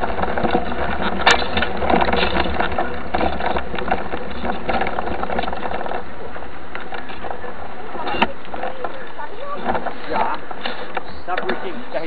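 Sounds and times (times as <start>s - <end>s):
bike rattling: 0.0s - 12.0s.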